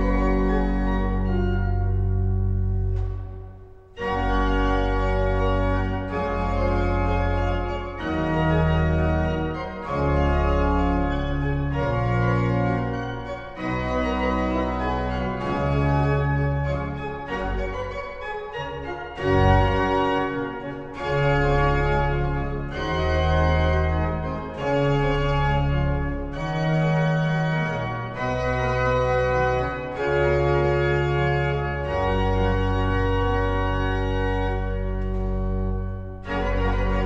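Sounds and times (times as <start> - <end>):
pipe organ playing chords: 0.0 - 37.0.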